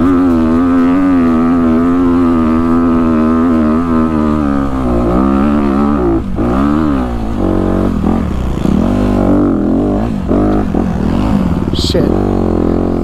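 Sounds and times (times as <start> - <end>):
motorcycle engine revving under load: 0.0 - 13.0.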